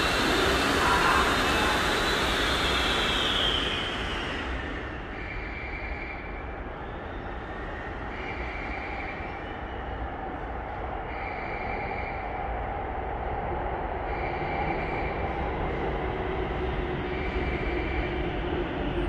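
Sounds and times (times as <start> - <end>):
train rumbling in tunnel: 0.0 - 19.0.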